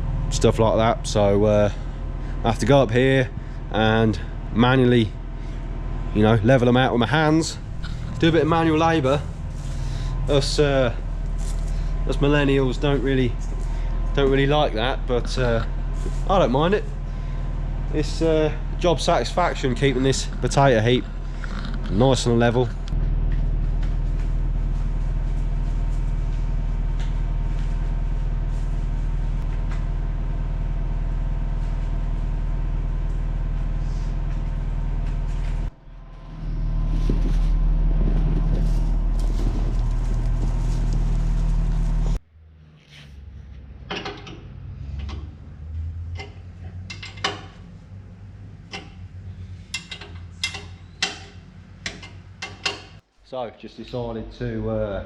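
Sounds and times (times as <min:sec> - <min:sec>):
machinery drone: 0:00.0 - 0:52.5.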